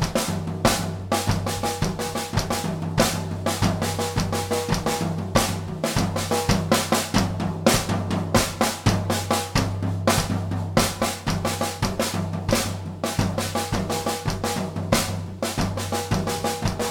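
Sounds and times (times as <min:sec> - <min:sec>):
drum kit playing: 0:00.0 - 0:16.9.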